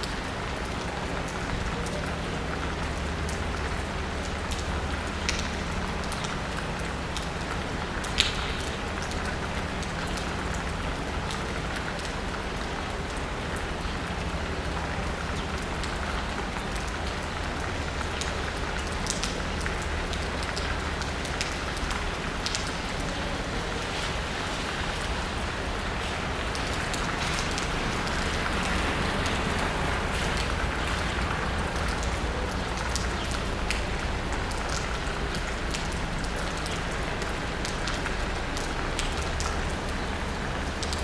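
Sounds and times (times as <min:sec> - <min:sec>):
rain pattering on asphalt: 0:00.0 - 0:41.0
raindrops ticking close by: 0:00.0 - 0:41.0.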